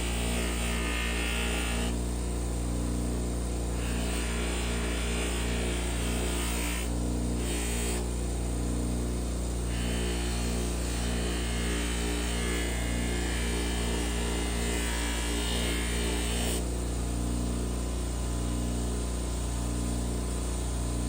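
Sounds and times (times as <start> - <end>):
electrical hum with buzz: 0.0 - 21.0.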